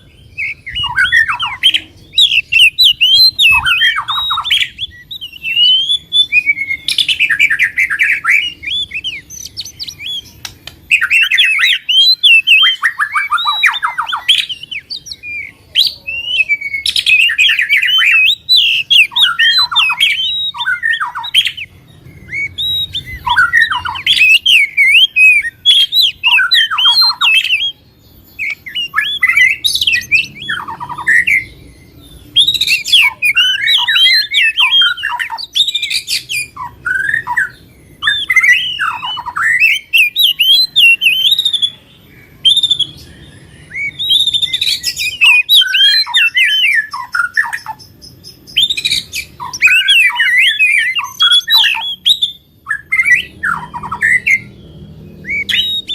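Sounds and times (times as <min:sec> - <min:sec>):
cage songbirds chirping: 0:00.0 - 0:55.9.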